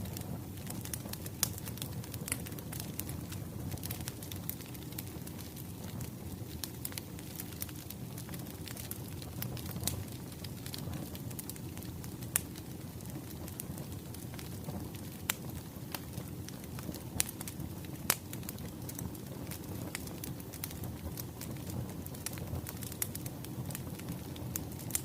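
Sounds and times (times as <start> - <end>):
fire crackling and popping: 0.0 - 25.0
wood fire rumbling: 0.0 - 25.0.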